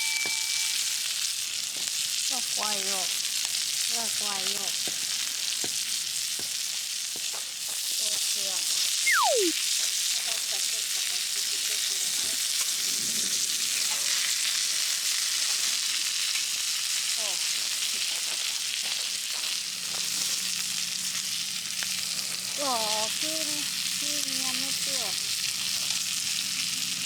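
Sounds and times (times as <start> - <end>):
patties sizzling on a griddle: 0.0 - 9.0, 9.7 - 27.0.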